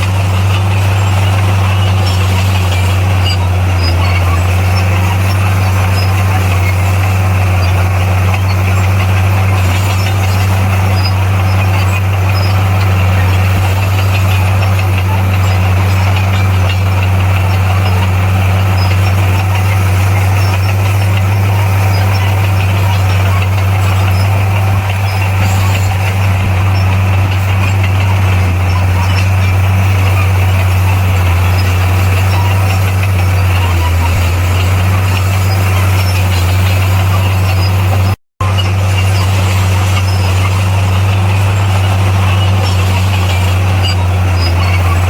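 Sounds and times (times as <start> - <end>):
diesel engine humming: 0.0 - 45.0.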